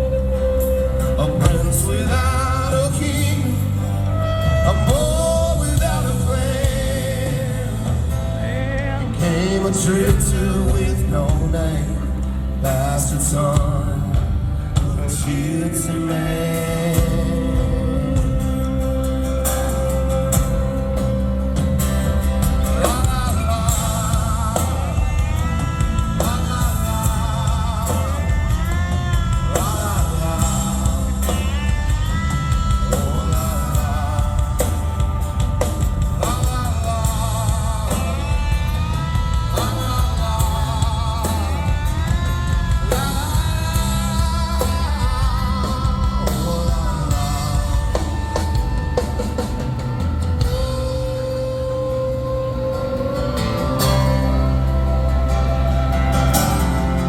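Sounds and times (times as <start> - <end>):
bass guitar: 0.0 - 57.0
drum kit: 0.0 - 57.0
lead guitar bending notes: 0.0 - 57.0
live rock band playing: 0.0 - 57.0.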